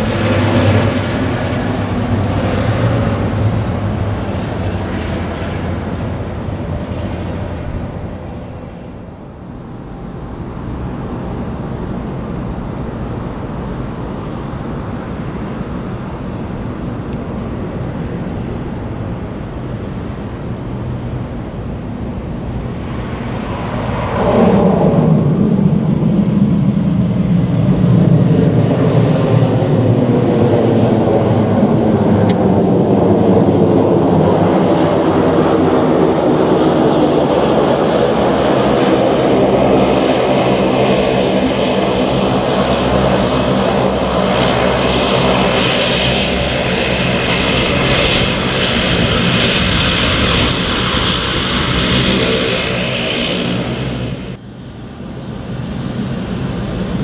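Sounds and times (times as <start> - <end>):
airliner engines passing: 0.0 - 57.0.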